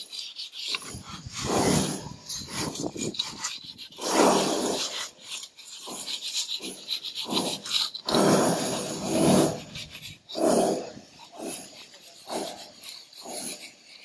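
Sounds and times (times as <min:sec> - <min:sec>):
trowel scraping mortar: 0:00.0 - 0:14.0.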